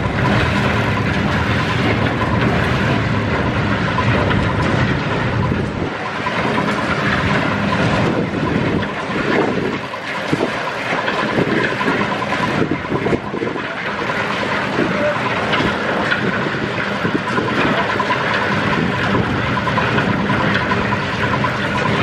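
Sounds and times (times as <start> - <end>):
machine rattling: 0.0 - 22.0.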